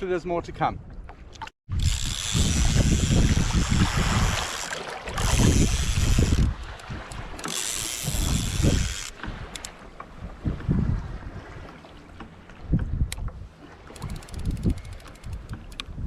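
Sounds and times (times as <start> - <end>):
wind buffeting microphone: 1.7 - 11.8, 12.6 - 16.0.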